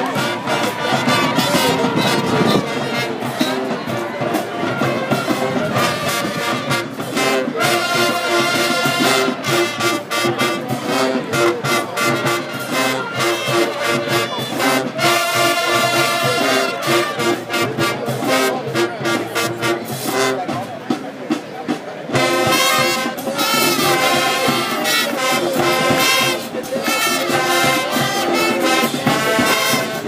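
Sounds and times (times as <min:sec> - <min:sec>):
marching band playing: 0:00.0 - 0:30.0
steady drum beat: 0:00.0 - 0:30.0
trombones and trumpets: 0:00.0 - 0:30.0.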